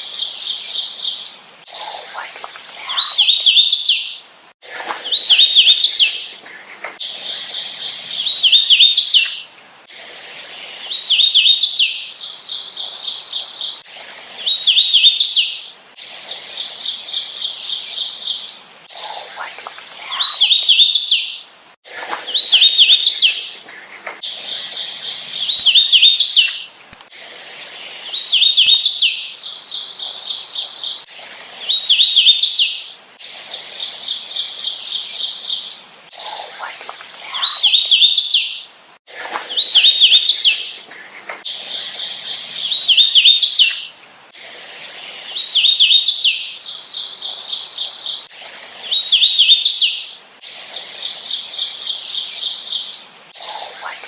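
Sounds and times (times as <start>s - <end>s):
warbler singing: 0.0s - 4.2s, 4.8s - 9.6s, 10.6s - 15.8s, 16.4s - 26.8s, 27.6s - 44.0s, 45.0s - 54.0s.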